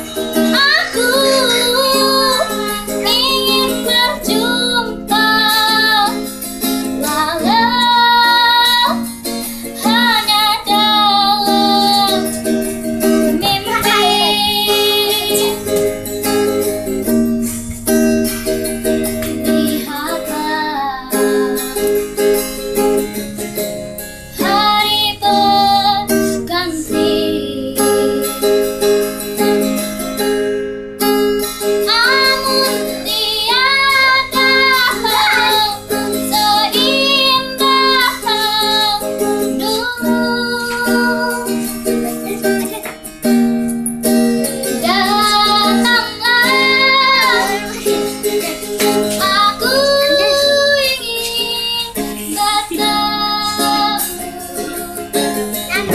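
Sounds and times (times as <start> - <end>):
girl singing: 0.0 - 23.4, 24.3 - 30.3, 31.5 - 55.9
ukulele strumming: 0.0 - 55.9.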